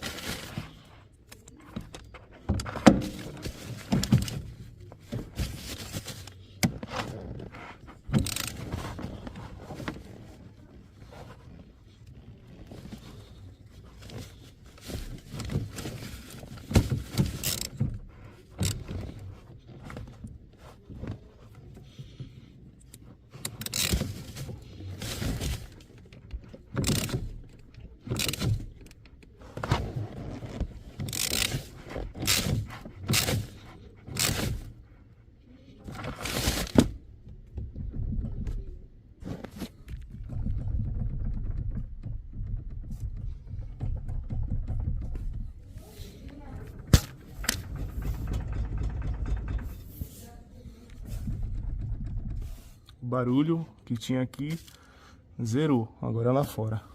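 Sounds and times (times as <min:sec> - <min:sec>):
knocks and scraping: 0:00.0 - 0:55.1.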